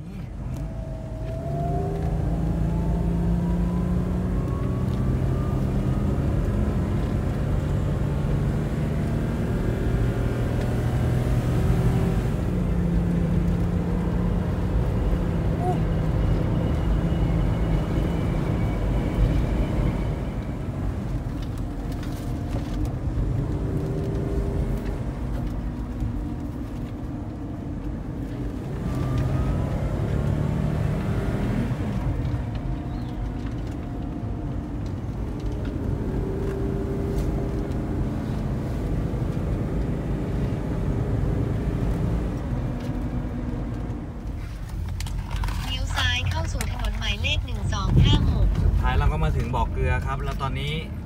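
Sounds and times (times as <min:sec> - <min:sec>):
van engine and road noise: 0:00.0 - 0:51.0.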